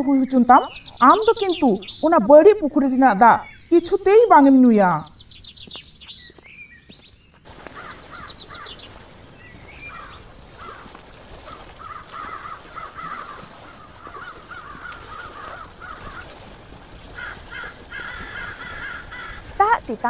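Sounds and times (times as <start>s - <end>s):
birds calling: 0.0s - 20.0s.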